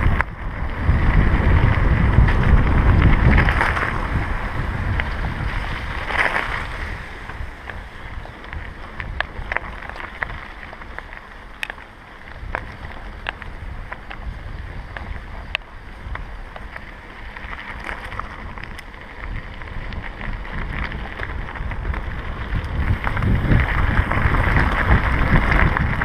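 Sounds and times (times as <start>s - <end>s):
bike tyres on gravel: 0.0s - 26.0s
stones and bike clicking and rattling: 0.0s - 26.0s
wind buffeting microphone: 0.0s - 26.0s.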